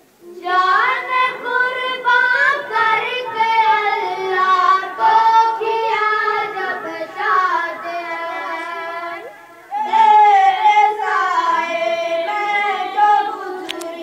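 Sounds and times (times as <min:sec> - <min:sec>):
child singing: 0:00.2 - 0:14.0.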